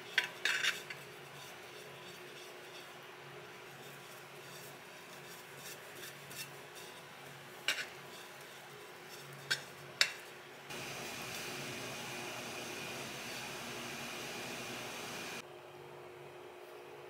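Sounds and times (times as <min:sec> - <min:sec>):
faint kitchen hum: 0:00.0 - 0:17.0.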